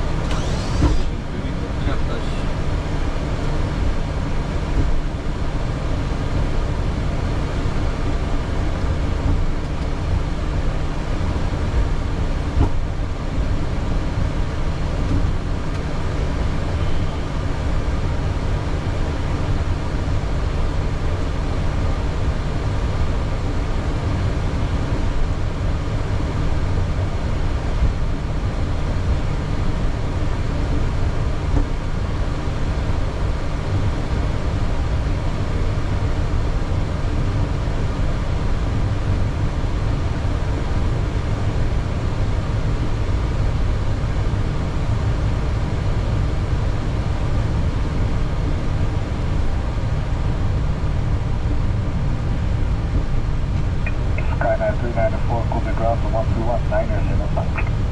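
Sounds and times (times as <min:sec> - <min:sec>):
cockpit engine rumble and hum: 0:00.0 - 0:57.9.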